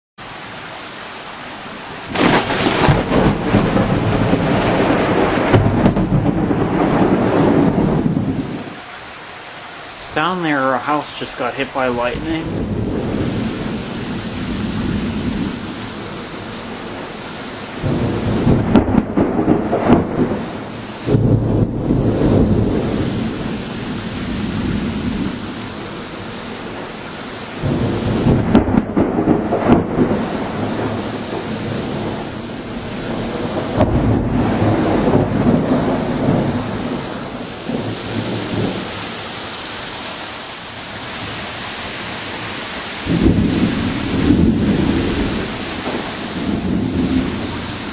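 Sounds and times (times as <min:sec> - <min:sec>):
rain hissing: 0:00.2 - 0:47.9
thunder rumbling: 0:02.1 - 0:08.8, 0:10.1 - 0:39.2, 0:43.0 - 0:47.9.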